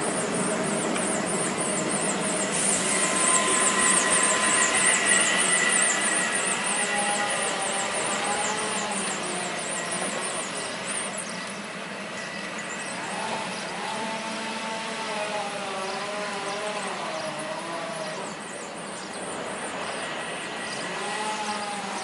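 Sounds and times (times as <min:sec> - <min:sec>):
tram rolling noise: 0:00.0 - 0:15.0, 0:17.4 - 0:22.0
whining tones: 0:00.0 - 0:22.0.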